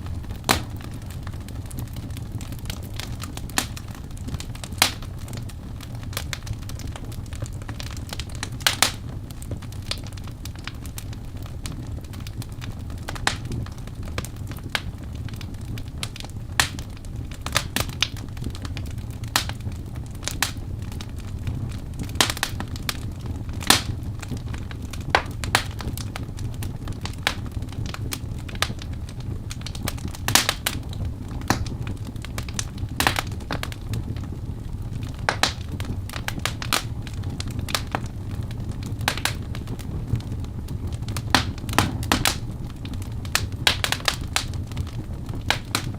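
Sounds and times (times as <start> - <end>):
fire crackling and popping: 0.0 - 45.9
flame rumble in fireplace: 0.0 - 45.9.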